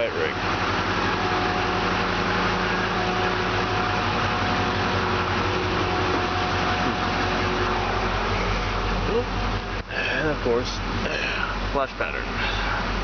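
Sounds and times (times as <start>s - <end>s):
ambulance engine idling: 0.0s - 13.0s
faint steady whine: 0.0s - 13.0s.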